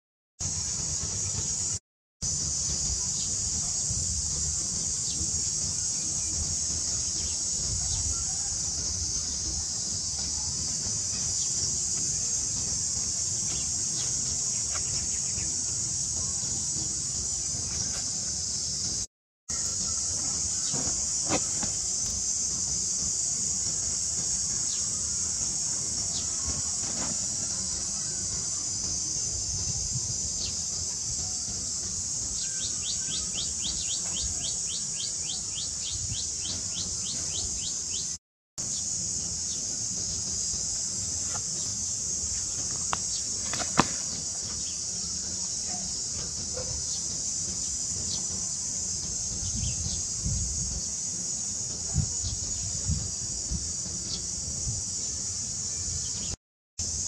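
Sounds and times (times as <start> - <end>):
insects droning: 0.4 - 57.0.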